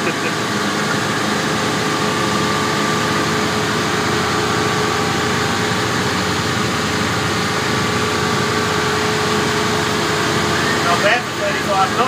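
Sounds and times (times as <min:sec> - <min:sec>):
boat engine droning: 0:00.0 - 0:12.0
hull and water noise: 0:00.0 - 0:12.0.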